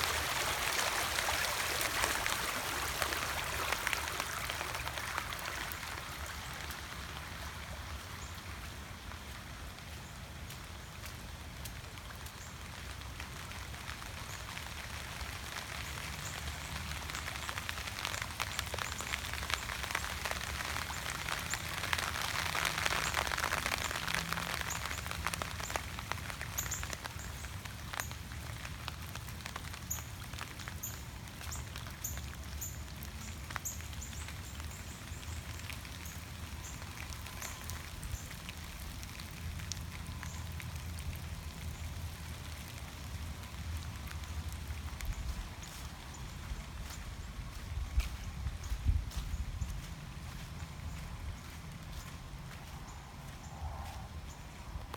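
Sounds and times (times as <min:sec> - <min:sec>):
raindrops ticking on a surface: 0:00.0 - 0:54.9
steady rain falling: 0:00.0 - 0:54.9.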